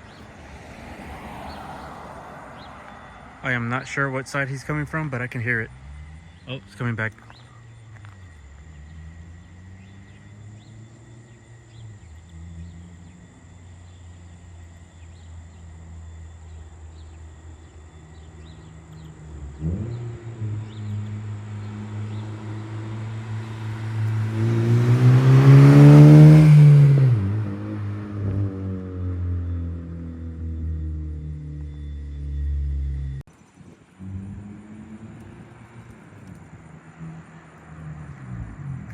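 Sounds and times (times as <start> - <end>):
car engine passing by: 0.0 - 38.9.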